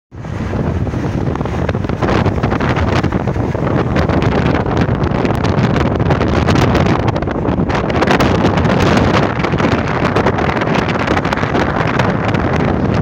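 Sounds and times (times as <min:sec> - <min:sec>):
road noise: 0:00.1 - 0:13.0
wind buffeting the microphone: 0:00.1 - 0:13.0.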